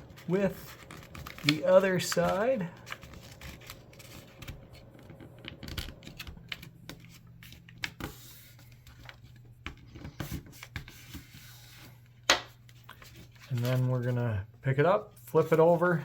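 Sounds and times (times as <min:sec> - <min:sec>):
paper being folded and creased: 0:00.0 - 0:14.4.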